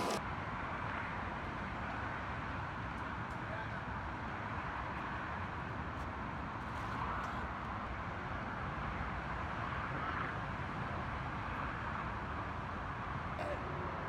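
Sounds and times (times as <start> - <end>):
distant road traffic hum: 0.0 - 14.0.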